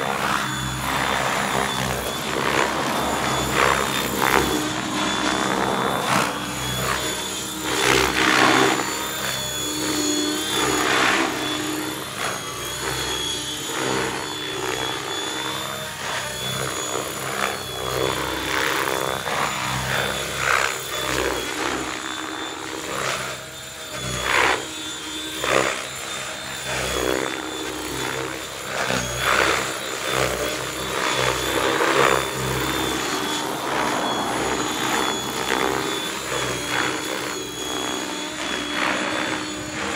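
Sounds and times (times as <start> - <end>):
helicopter rotor noise: 0.0 - 39.9
high electric motor whine: 0.0 - 39.9.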